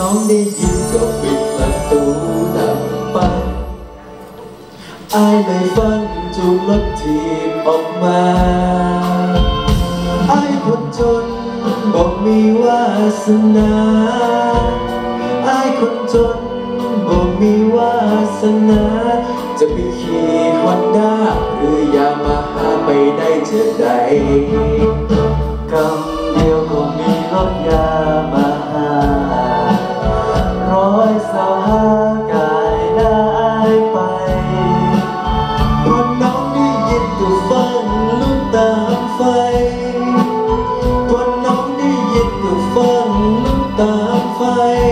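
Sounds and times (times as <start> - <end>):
live band with electric guitar: 0.0 - 44.9
man singing into a microphone: 0.0 - 44.9.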